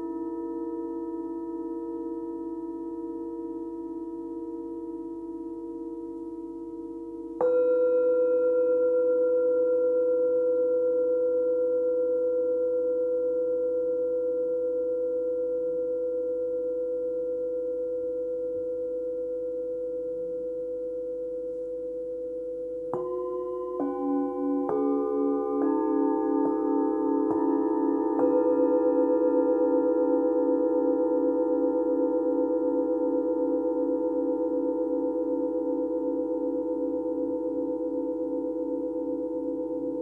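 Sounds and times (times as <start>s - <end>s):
lower-pitched bowl struck: 0.0s - 40.0s
singing bowl ringing: 0.0s - 40.0s.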